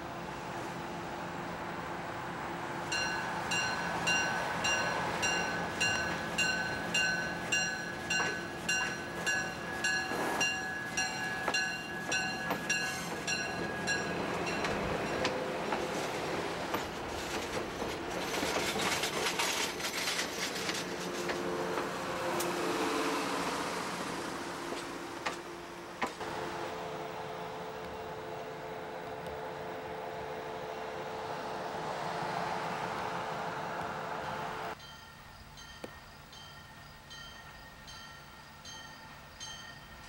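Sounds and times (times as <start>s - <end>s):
railcar wheels and diesel engines: 0.0s - 40.0s.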